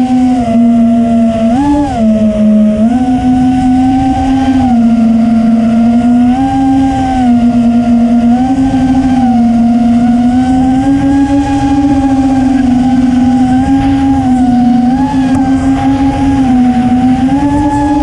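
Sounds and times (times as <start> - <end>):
drone motors buzzing whine: 0.0 - 18.0
wind rumble on microphone: 0.0 - 18.0.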